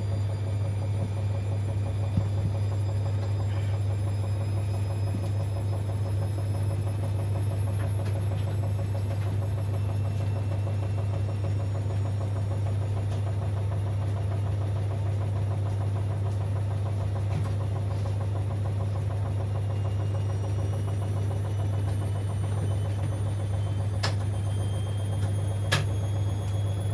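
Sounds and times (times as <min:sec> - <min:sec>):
washing machine humming: 0:00.0 - 0:26.9.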